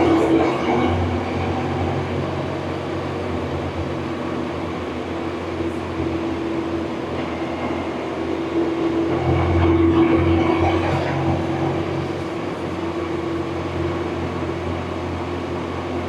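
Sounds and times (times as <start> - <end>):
motorcycle engine droning: 0.0 - 16.0
road and wind noise: 0.0 - 16.0.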